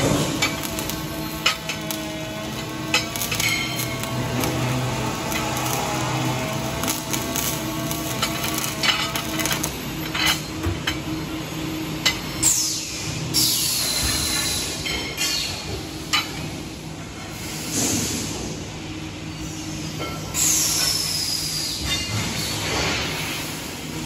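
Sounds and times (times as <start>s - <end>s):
welding arc noise: 0.0s - 24.0s.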